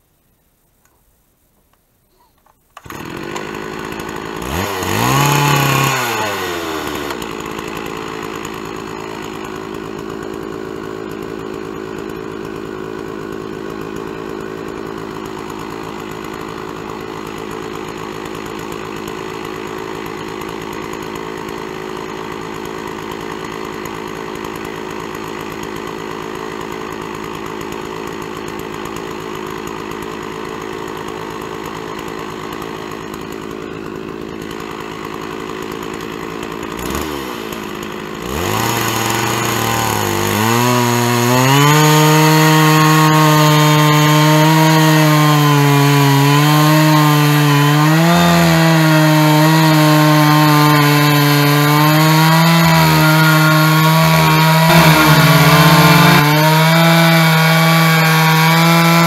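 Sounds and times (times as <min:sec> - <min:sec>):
chainsaw cutting log: 0:02.1 - 0:59.0.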